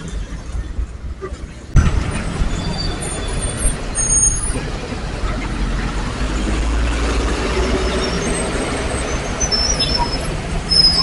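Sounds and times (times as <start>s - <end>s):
heavy vehicle engine rumble: 0.0s - 11.0s
traffic noise: 0.0s - 11.0s.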